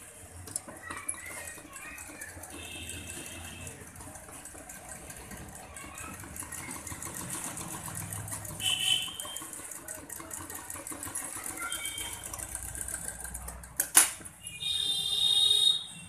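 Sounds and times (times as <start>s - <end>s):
sewing machine stitching: 0.0s - 14.4s.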